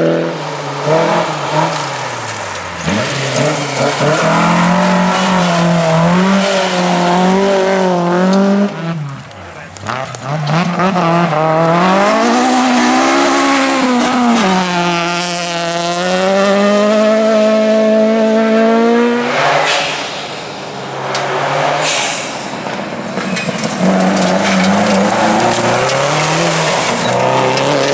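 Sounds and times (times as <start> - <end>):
rally car engine revving: 0.0 - 27.9.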